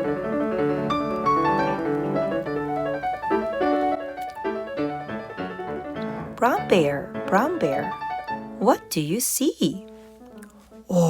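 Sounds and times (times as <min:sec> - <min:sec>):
gentle piano music: 0:00.0 - 0:09.1.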